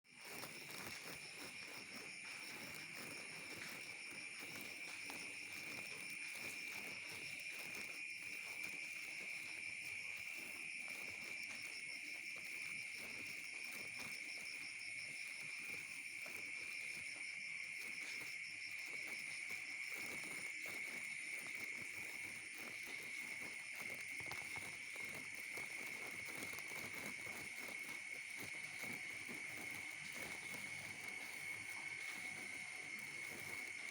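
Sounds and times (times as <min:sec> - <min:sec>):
drizzle patter: 0:00.0 - 0:33.9
insects trilling: 0:00.1 - 0:33.9.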